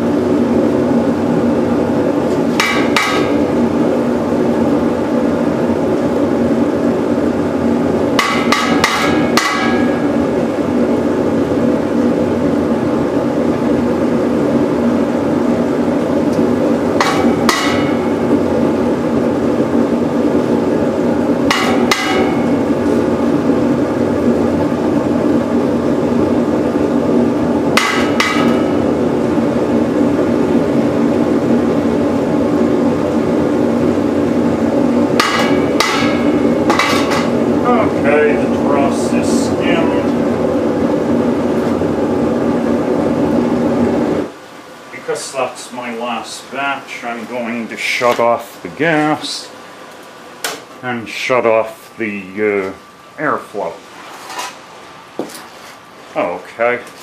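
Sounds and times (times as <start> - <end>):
propane burner and blower roaring: 0.0 - 57.0.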